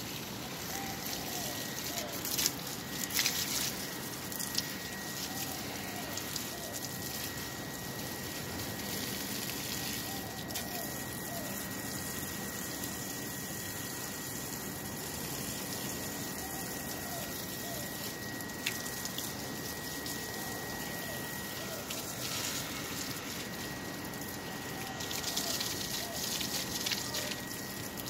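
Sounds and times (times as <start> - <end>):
faint high whine: 0.0 - 28.0
hose water splashing into soil: 0.0 - 28.0.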